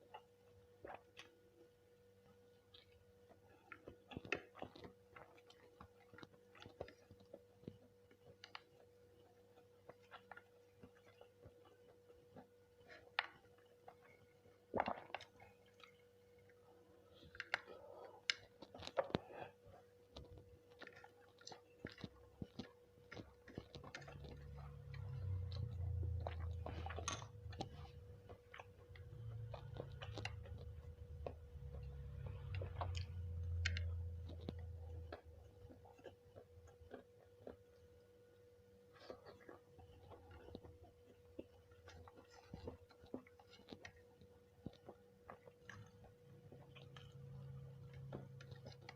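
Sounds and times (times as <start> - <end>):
person chewing rice: 0.0 - 48.9.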